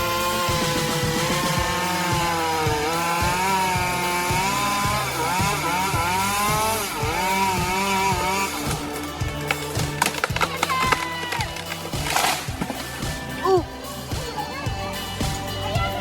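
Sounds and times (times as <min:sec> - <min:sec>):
chainsaw cutting wood: 0:00.0 - 0:13.9.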